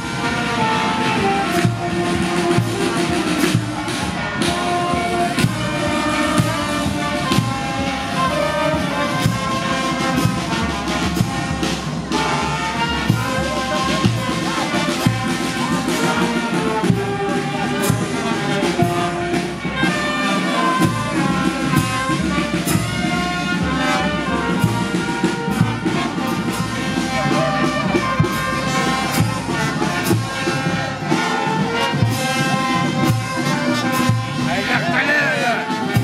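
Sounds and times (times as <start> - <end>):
trumpets and trombones melody: 0.0 - 36.0.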